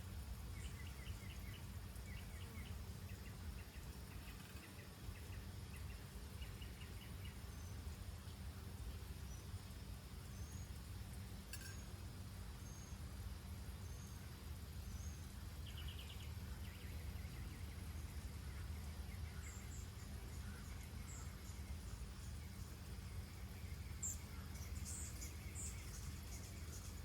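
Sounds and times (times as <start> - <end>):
high chirps of birds or insects: 0.0 - 27.0.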